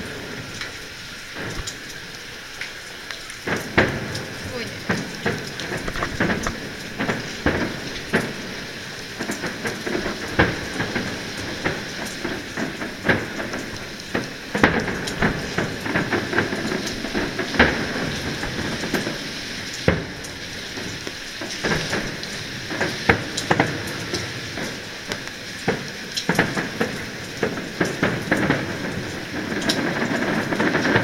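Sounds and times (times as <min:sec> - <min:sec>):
fireworks crackling pops: 0:00.0 - 0:31.0
fireworks bangs: 0:03.4 - 0:21.0, 0:21.6 - 0:31.0.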